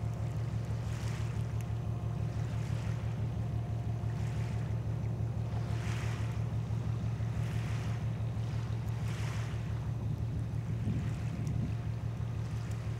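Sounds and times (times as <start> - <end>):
low engine drone: 0.0 - 12.9.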